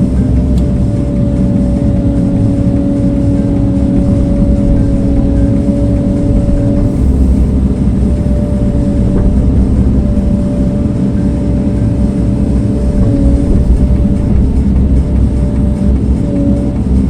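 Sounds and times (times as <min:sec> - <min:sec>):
heavy machine engine running: 0:00.0 - 0:17.0
steady whine: 0:00.0 - 0:17.0.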